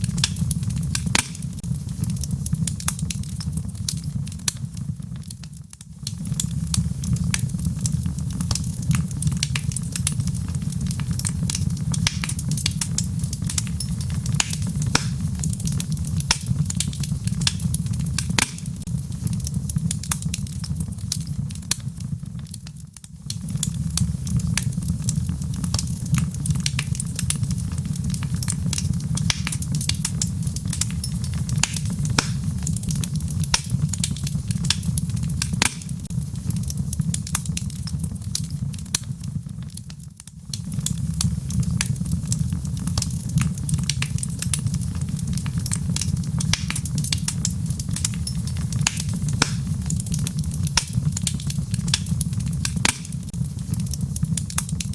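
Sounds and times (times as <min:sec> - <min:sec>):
fire crackles and pops: 0:00.0 - 0:54.9
logs burning in fireplace: 0:00.0 - 0:54.9.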